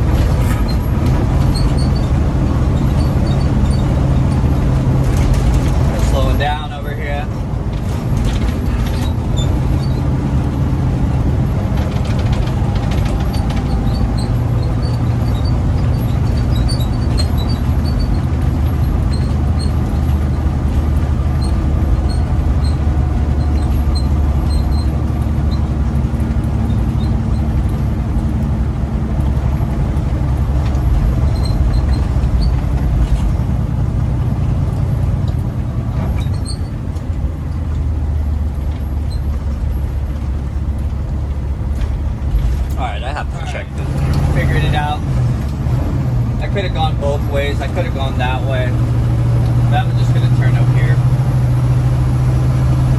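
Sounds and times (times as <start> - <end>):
diesel truck engine running: 0.0 - 52.9
road noise: 0.0 - 52.9.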